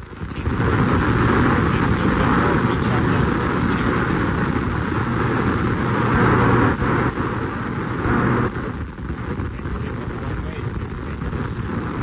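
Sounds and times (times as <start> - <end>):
machine humming and hissing: 0.0 - 12.0.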